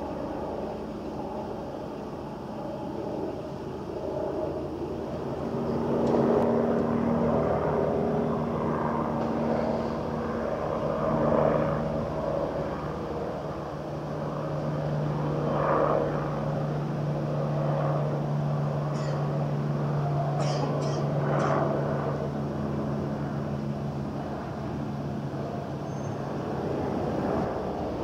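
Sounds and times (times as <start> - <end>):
helicopter rotor and turbine drone: 0.0 - 28.0.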